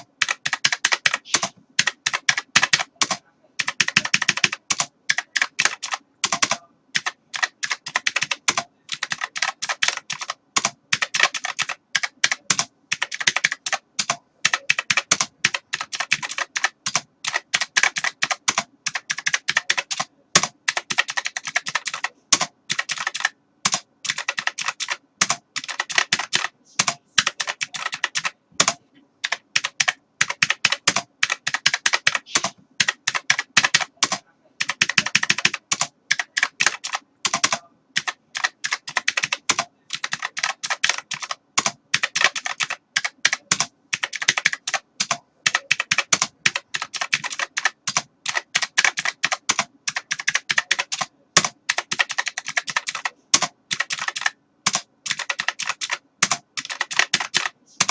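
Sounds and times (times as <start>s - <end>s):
computer keyboard typing: 0.0s - 57.9s.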